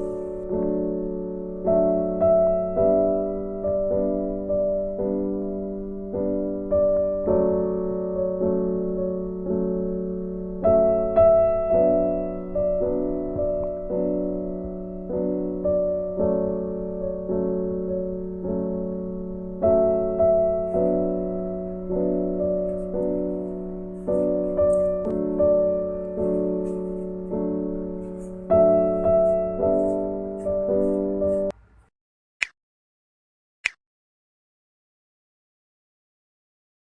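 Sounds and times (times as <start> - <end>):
gentle piano piece: 0.0 - 31.6.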